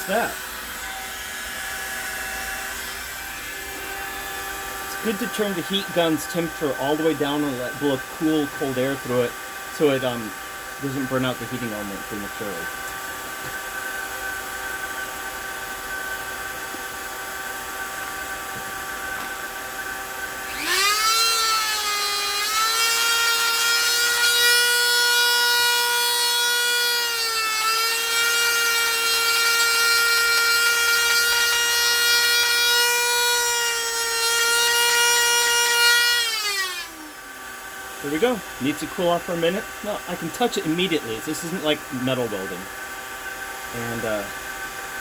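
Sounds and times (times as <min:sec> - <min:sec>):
heat gun blower whining: 0:00.0 - 0:45.0.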